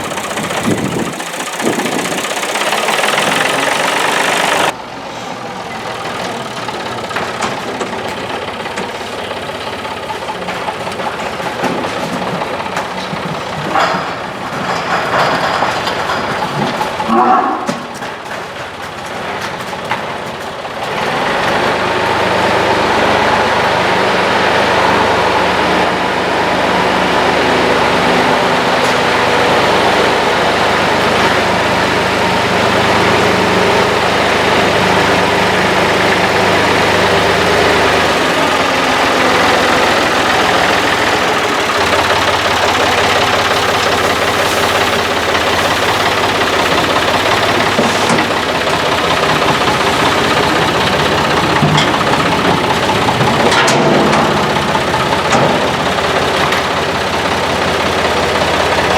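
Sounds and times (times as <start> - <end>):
engine running steadily: 0.0 - 58.9.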